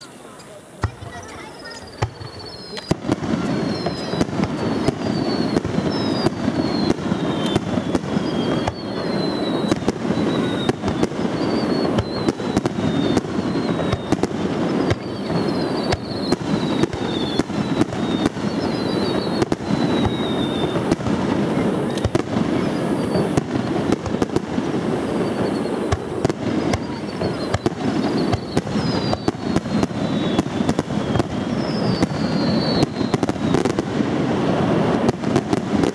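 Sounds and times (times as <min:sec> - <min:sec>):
fireworks bangs and crackling: 0:00.0 - 0:35.9
fireworks whistling: 0:00.0 - 0:35.9.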